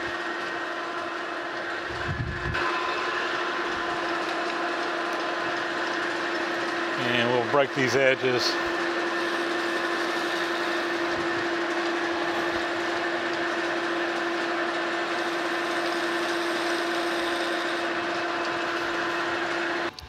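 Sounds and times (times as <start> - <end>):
metal lathe humming and whining: 0.0 - 20.0.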